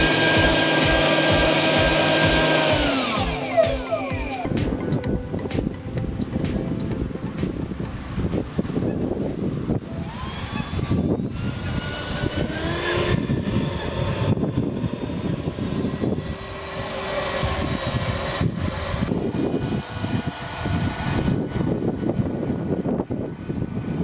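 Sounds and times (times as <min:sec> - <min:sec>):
ducted fans whining: 0:00.0 - 0:24.0.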